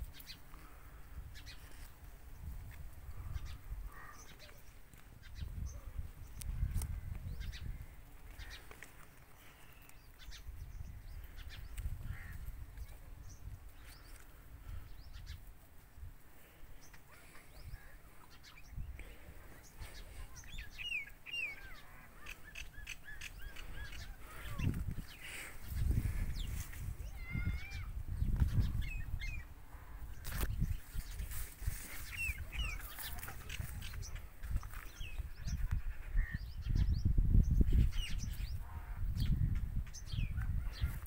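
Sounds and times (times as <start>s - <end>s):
birds chirping and calling: 0.0s - 41.0s.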